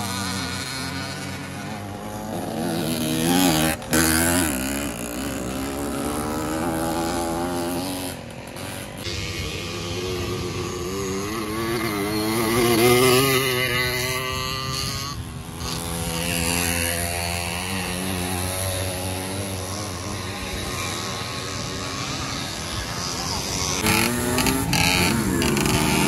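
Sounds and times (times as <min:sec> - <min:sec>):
small two-stroke engines buzzing by: 0:00.0 - 0:26.0.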